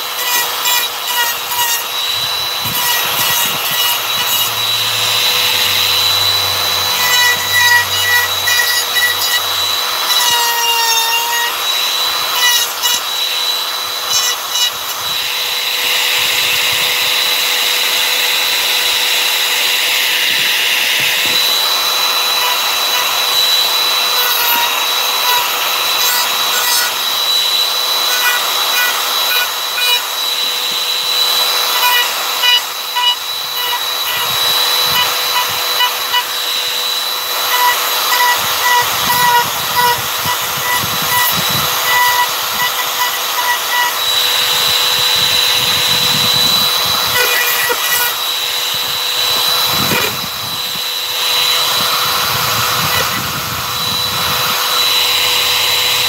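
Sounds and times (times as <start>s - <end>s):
router cutting wood: 0.0s - 56.0s.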